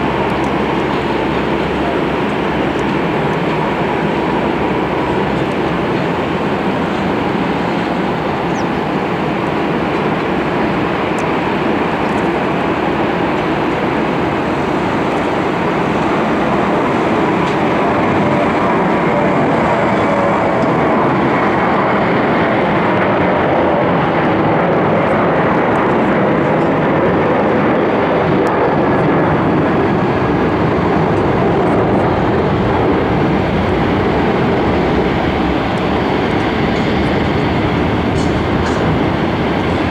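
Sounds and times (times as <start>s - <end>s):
faint jet whine: 0.0s - 39.9s
jet engines roaring: 0.0s - 39.9s.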